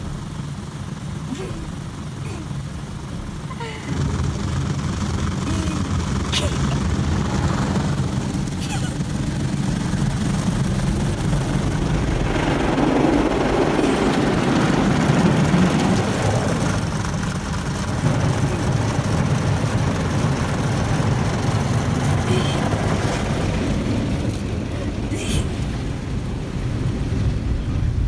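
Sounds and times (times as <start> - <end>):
car wash machinery rumbling: 0.0 - 28.0
water spraying over windows: 0.0 - 28.0.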